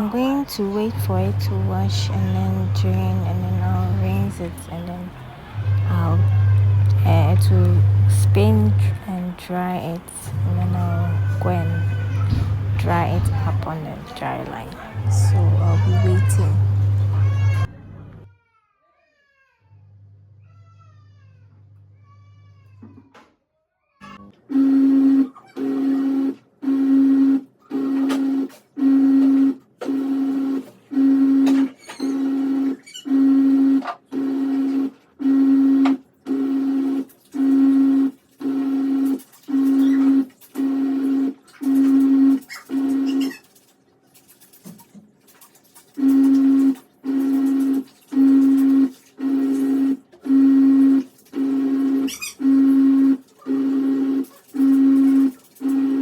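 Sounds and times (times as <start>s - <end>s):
washing machine agitating: 0.0s - 18.3s, 24.1s - 56.0s.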